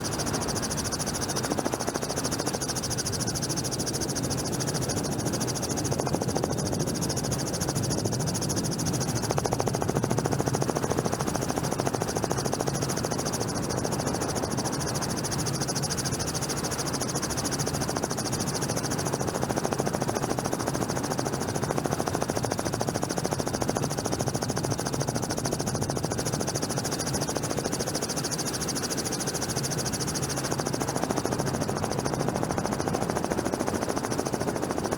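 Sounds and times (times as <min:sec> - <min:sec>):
helicopter rotor and turbine drone: 0:00.0 - 0:34.9.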